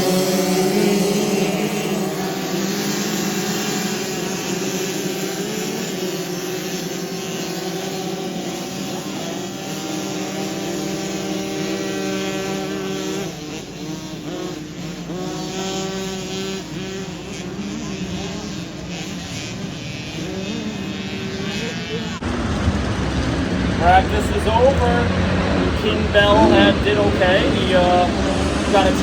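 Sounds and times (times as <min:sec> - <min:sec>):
dirt bike engines droning: 0:00.0 - 0:29.0.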